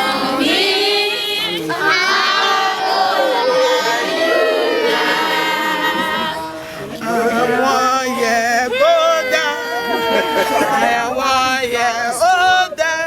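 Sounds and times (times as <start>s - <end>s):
congregation singing: 0.0s - 13.0s.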